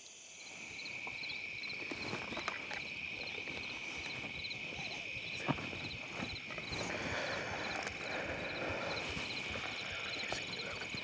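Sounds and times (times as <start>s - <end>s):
insect chorus chirping: 0.0s - 11.0s
clothing and gear rustling: 0.6s - 11.0s
footsteps through grass and brush: 0.9s - 11.0s.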